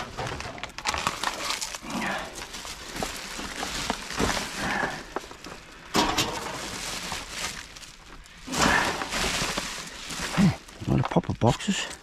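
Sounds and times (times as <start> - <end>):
rustling of bags and packaging: 0.0 - 12.0.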